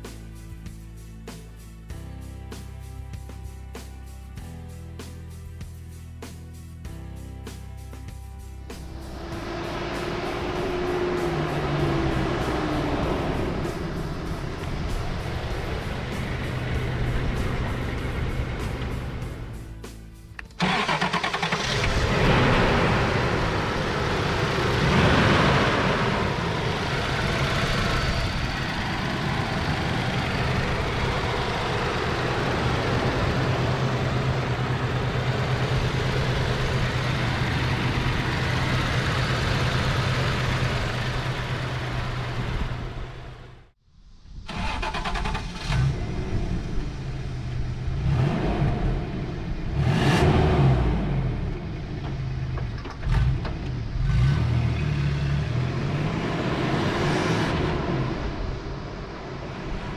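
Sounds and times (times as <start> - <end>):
car engine idling and revving: 0.0 - 43.8, 44.4 - 59.9.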